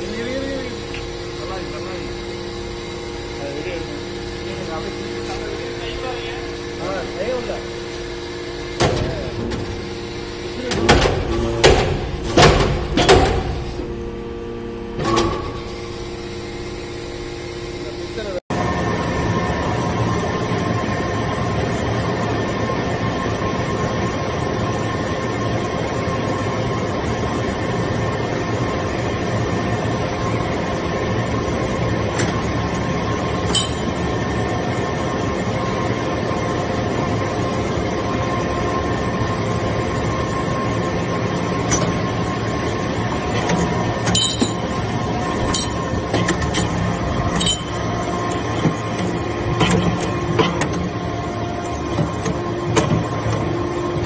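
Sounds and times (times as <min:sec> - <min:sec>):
hydraulic power unit hum and whine: 0:00.0 - 0:54.0.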